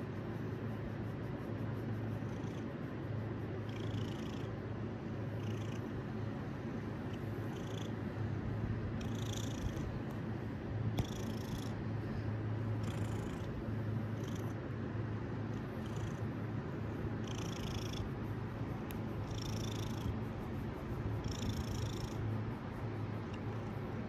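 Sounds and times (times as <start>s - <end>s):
cat purring: 0.0s - 6.0s, 7.0s - 10.0s, 10.9s - 11.8s, 12.7s - 14.6s, 15.5s - 23.9s.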